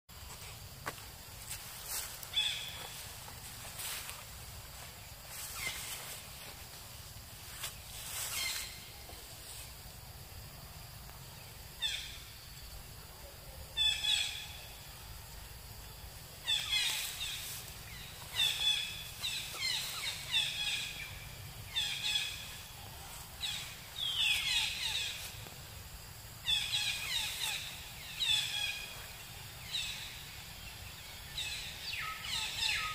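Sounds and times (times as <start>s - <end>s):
low background noise: 0.1s - 32.9s.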